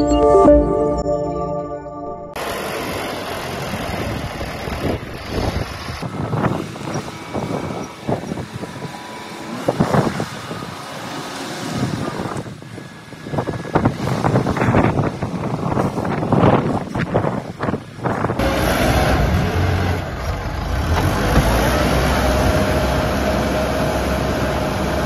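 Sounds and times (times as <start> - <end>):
diesel truck engine surging: 2.4 - 25.0.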